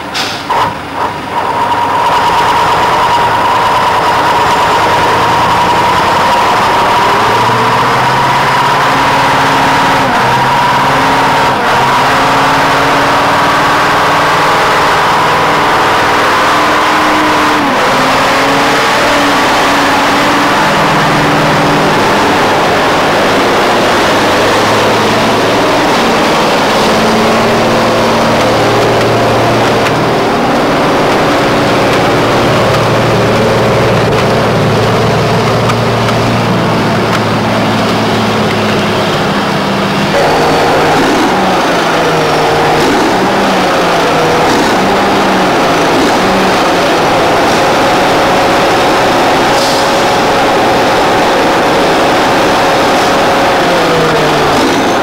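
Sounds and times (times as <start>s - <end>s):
truck diesel engines revving: 0.0s - 55.0s.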